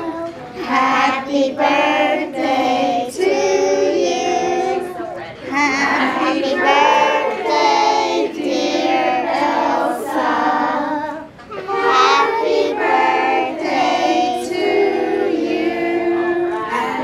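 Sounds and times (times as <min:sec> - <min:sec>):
children singing: 0:00.0 - 0:17.0.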